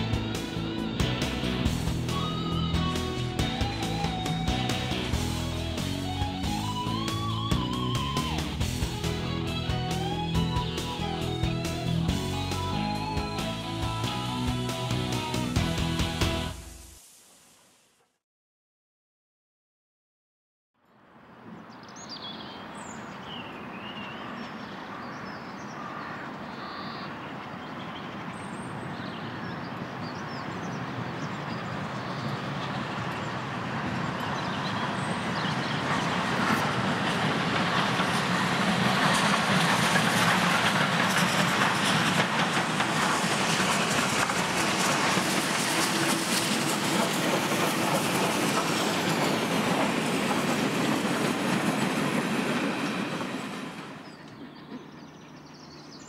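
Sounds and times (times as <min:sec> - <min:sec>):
steam locomotive passing: 0:00.0 - 0:17.6, 0:22.3 - 0:56.0.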